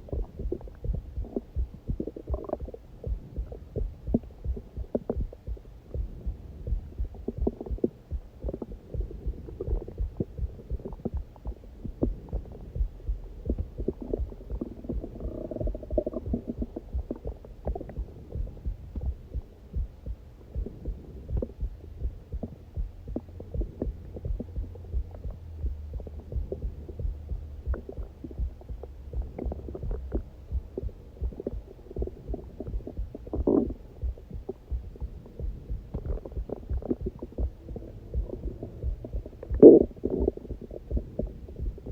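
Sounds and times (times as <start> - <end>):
stomach growling: 0.0 - 19.4, 20.5 - 41.9
heartbeat thumps: 0.0 - 41.9.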